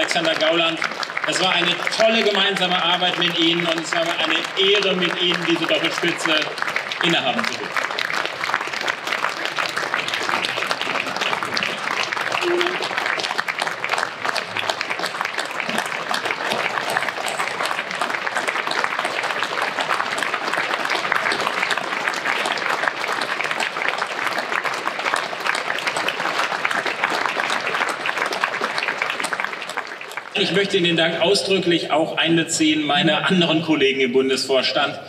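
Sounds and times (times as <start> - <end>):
audience applauding: 0.0 - 32.7.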